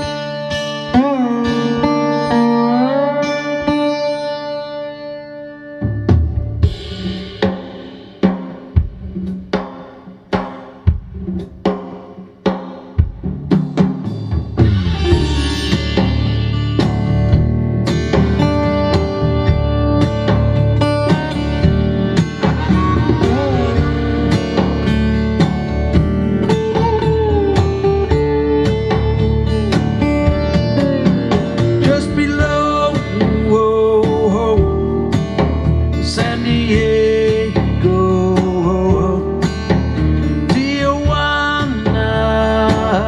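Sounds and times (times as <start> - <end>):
guitar music with singing: 0.0 - 10.8, 14.5 - 43.0.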